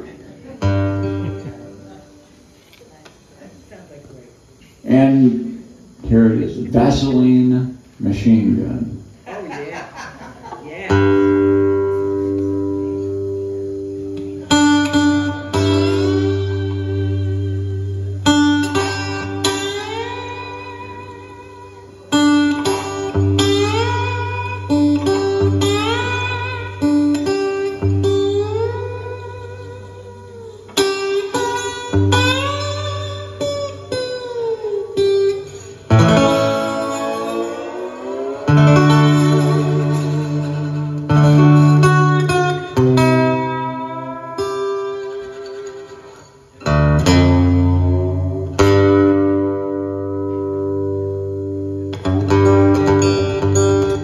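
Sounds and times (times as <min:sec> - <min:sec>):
fingerstyle acoustic guitar: 0:00.0 - 0:02.9, 0:10.9 - 0:54.0.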